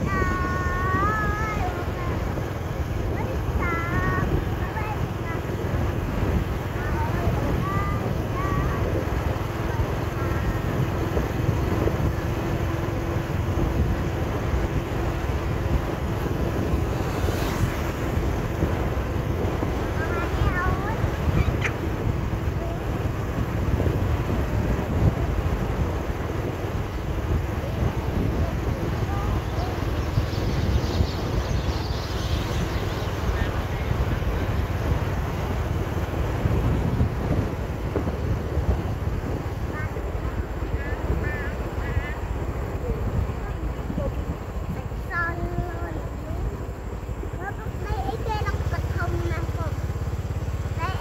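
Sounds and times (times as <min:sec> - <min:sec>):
road rumble: 0:00.0 - 0:51.0
vehicle running noise: 0:00.0 - 0:51.0
wind buffeting microphone: 0:00.0 - 0:51.0.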